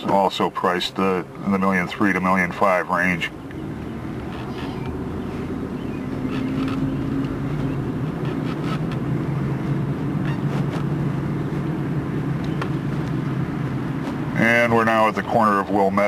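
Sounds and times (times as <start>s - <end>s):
car engine humming: 0.0s - 16.0s
road and tyre noise: 0.0s - 16.0s.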